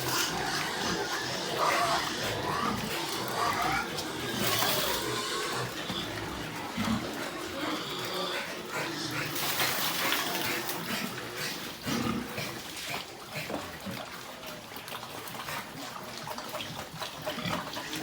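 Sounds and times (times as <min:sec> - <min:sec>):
pigs grunting: 0:00.0 - 0:18.0
running water: 0:00.0 - 0:18.0.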